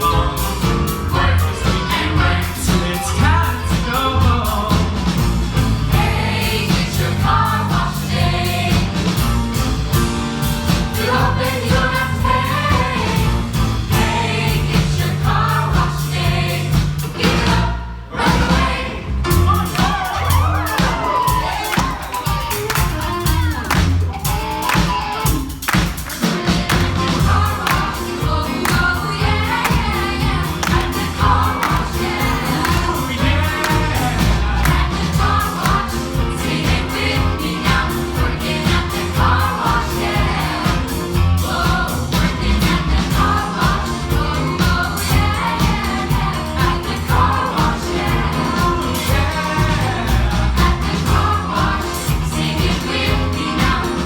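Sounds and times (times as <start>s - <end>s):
backing music with bass beat: 0.0s - 54.0s
vocal group singing: 0.0s - 54.0s.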